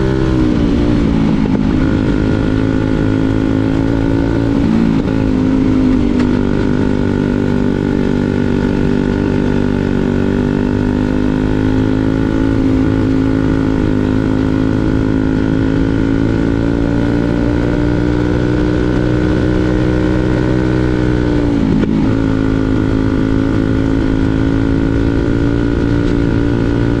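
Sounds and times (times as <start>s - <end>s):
kart engine revving high: 0.0s - 27.0s.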